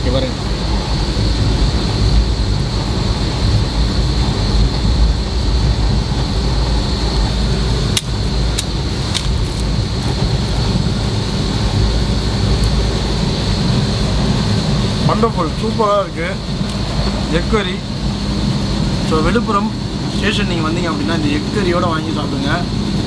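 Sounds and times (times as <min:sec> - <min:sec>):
train rumble inside coach: 0:00.0 - 0:23.0.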